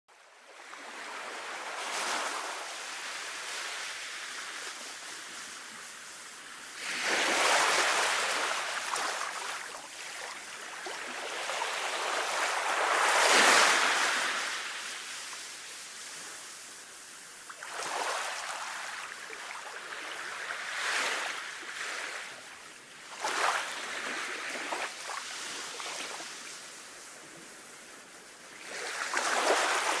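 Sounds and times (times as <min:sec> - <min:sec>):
waves washing onto beach: 0:00.3 - 0:30.0.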